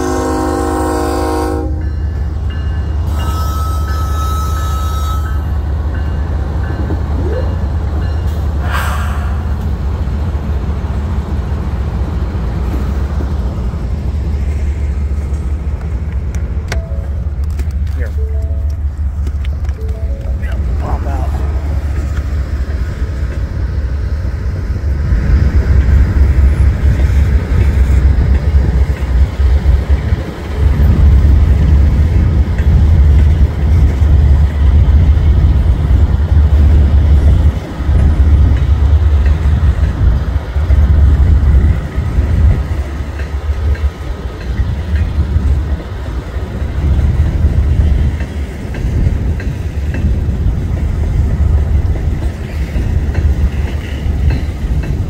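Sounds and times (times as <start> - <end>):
diesel train rumbling past: 0.0 - 55.0.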